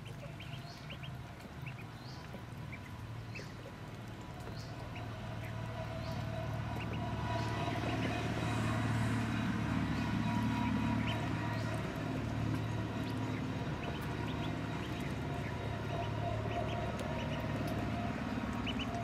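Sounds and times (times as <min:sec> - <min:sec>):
ducklings peeping: 0:00.0 - 0:19.0
low engine hum: 0:00.0 - 0:19.0.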